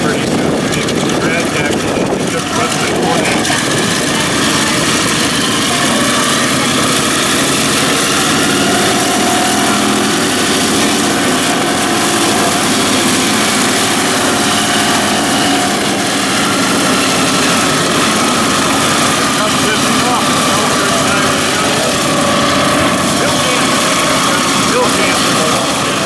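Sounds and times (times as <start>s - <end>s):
radial aircraft engine idling: 0.0s - 26.0s.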